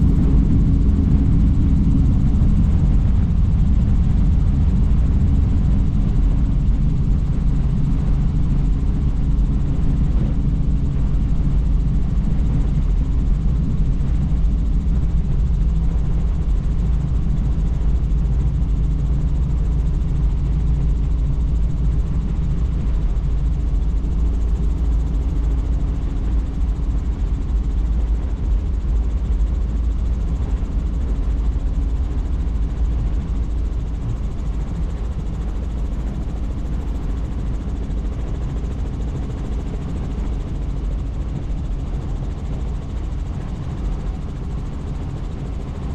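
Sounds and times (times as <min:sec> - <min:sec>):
helicopter rotor and engine drone: 0:00.0 - 0:45.9.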